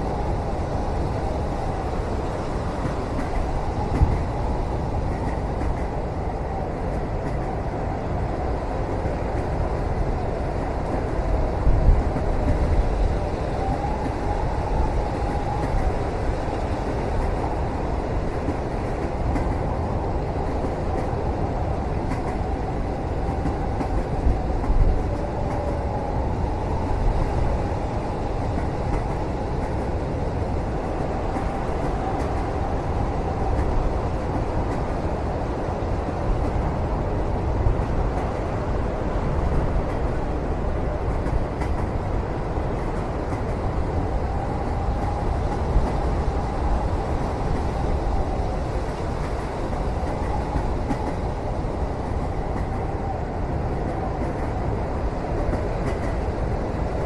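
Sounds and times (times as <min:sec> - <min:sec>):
moving train rumble: 0:00.0 - 0:57.0.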